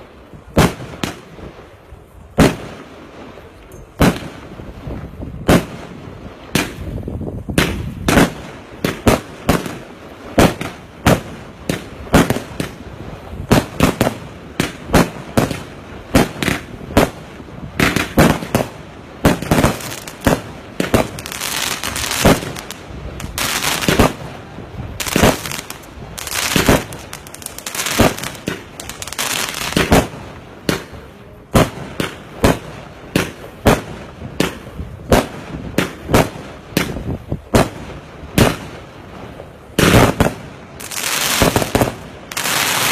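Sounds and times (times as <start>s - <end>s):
firework bangs: 0.0s - 42.9s
firework crackling hiss: 0.0s - 42.9s.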